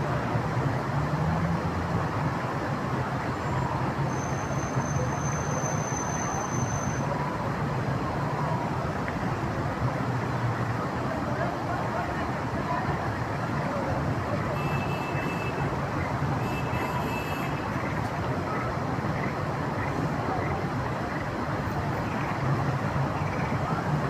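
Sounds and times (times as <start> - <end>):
river water rushing: 0.0 - 4.4, 6.9 - 24.0.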